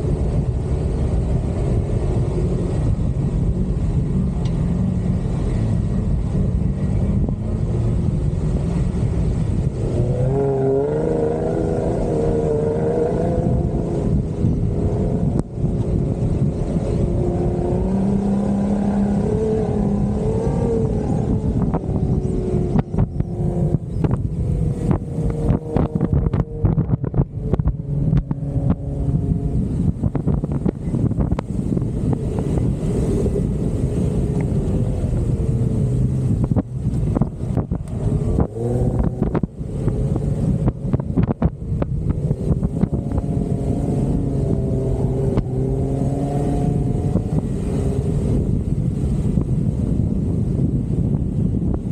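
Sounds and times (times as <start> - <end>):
car engine under load: 0.0 - 51.9.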